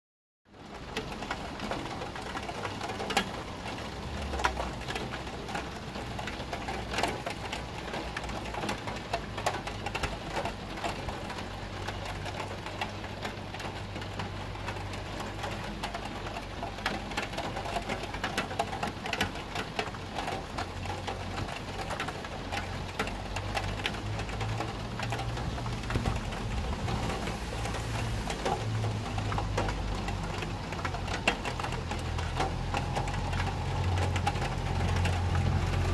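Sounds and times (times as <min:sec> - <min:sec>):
heavy rain patter: 0:00.4 - 0:35.9.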